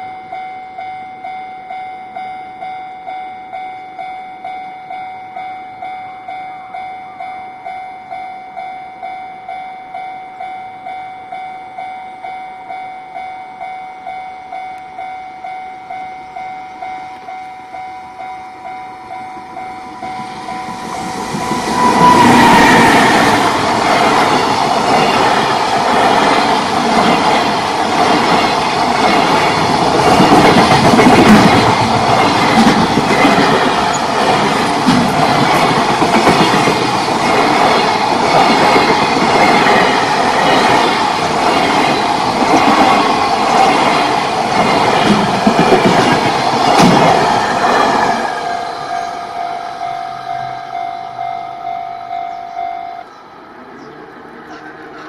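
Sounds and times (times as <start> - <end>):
level crossing warning bell: 0.0 - 53.1
freight train passing: 0.0 - 55.0.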